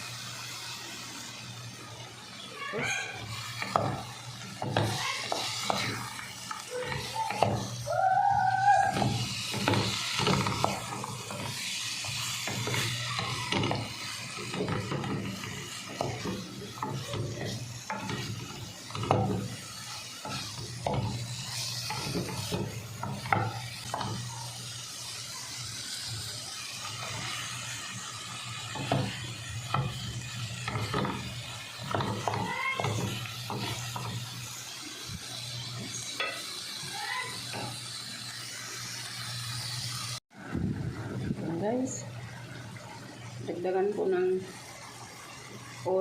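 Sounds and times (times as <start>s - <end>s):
food sizzling in a pan: 0.0s - 46.0s.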